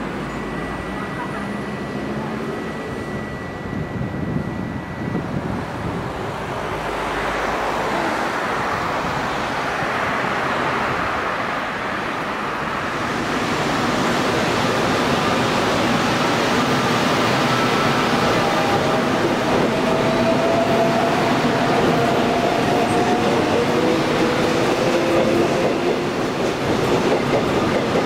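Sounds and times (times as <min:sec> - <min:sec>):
road traffic rushing: 0:00.0 - 0:28.0.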